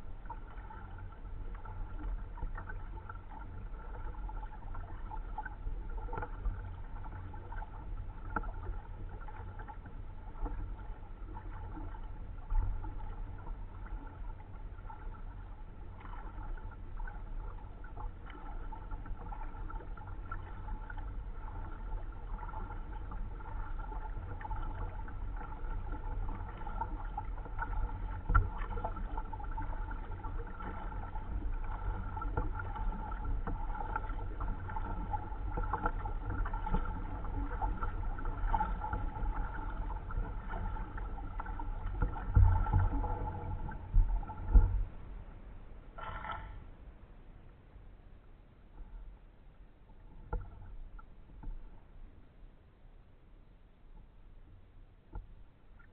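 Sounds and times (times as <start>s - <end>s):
paddle splashing and dripping: 0.0s - 45.2s, 45.9s - 46.6s
low rumble: 0.0s - 53.1s.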